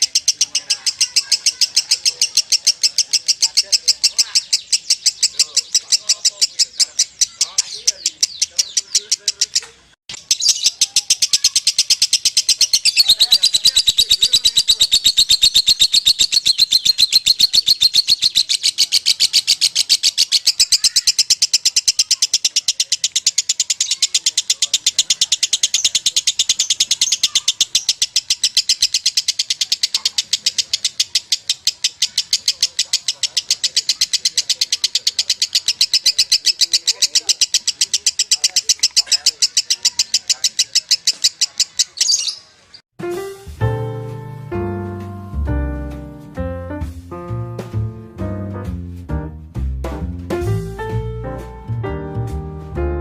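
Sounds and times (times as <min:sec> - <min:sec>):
lovebird shrill chattering: 0:00.0 - 0:42.8.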